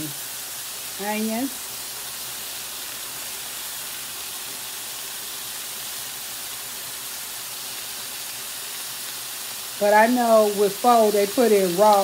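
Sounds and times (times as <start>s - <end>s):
vegetables sizzling on grill plate: 0.0s - 12.0s.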